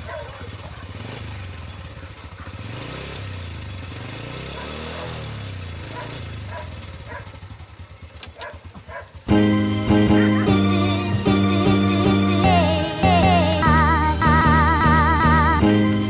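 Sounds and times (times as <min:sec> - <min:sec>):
small motorcycle engine idling: 0:00.0 - 0:16.0.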